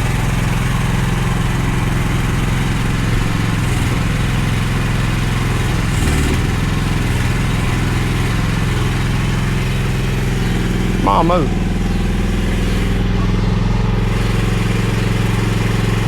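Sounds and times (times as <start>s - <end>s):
small diesel engine running: 0.0s - 16.0s.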